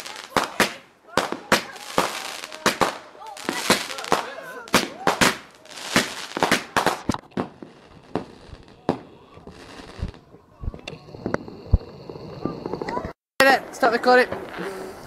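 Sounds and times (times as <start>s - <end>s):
fireworks bangs and crackles: 0.0s - 13.2s.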